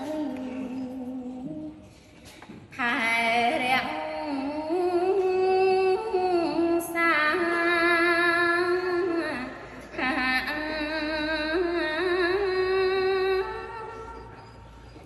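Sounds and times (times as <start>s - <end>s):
woman chanting: 0.0s - 1.8s, 2.8s - 14.6s.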